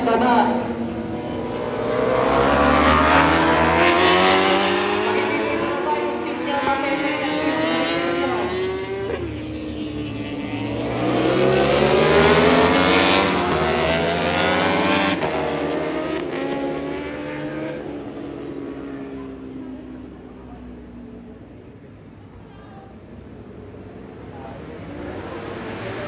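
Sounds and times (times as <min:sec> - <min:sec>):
motorbikes racing past: 0:00.0 - 0:20.8, 0:24.0 - 0:26.0.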